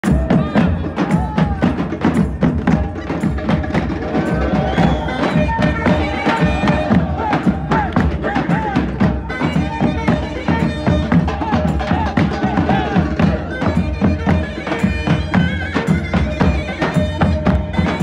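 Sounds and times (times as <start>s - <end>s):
frame drums: 0.0s - 18.0s
large stick-beaten drum: 0.0s - 18.0s
shrill reed pipe melody: 2.8s - 18.0s.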